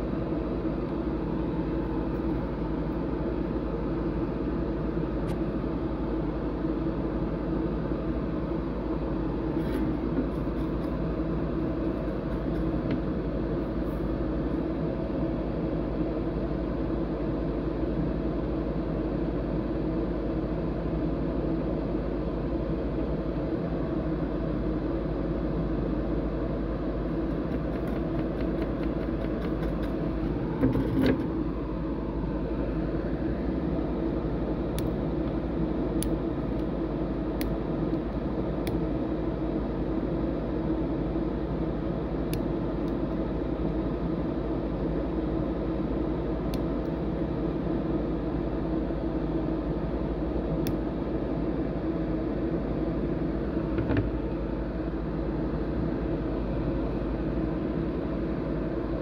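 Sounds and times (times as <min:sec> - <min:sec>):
steady mechanical hum: 0:00.0 - 0:59.0.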